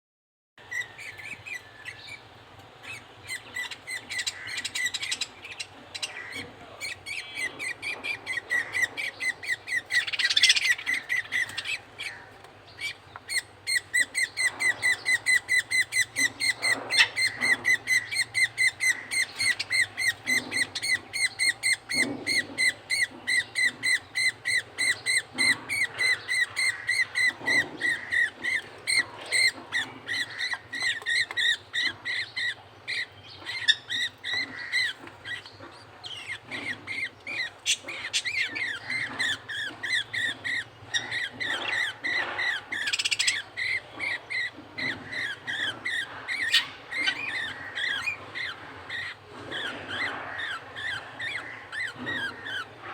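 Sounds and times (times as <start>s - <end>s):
bird chick begging chirps: 0.6s - 52.9s.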